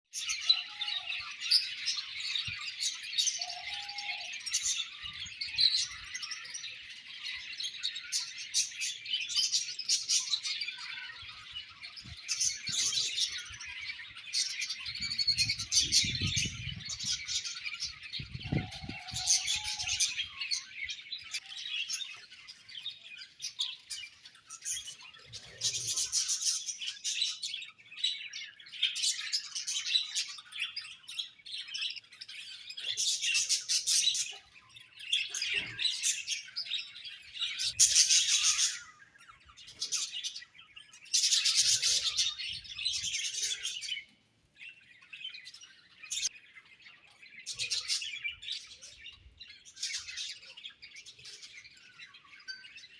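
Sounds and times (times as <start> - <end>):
budgerigars chattering and warbling: 0.1 - 52.9.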